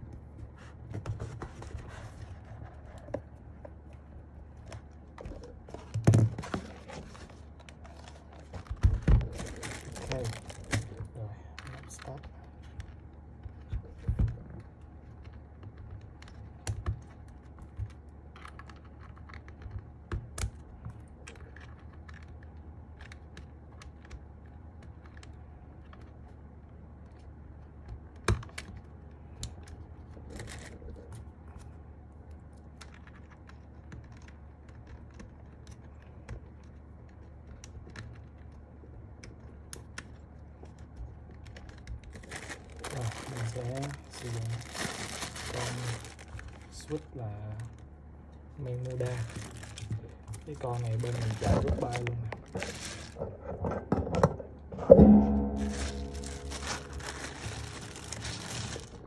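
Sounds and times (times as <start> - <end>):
faint low hum: 0.0 - 59.0.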